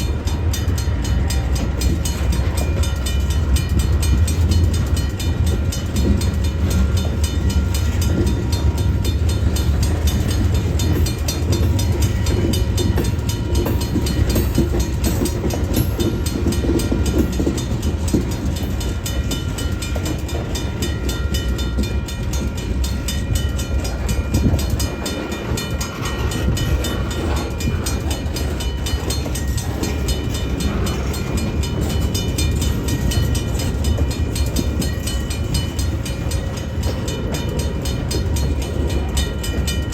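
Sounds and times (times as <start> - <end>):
freight train rumbling: 0.0 - 39.9
wheels clicking over track: 0.0 - 39.9.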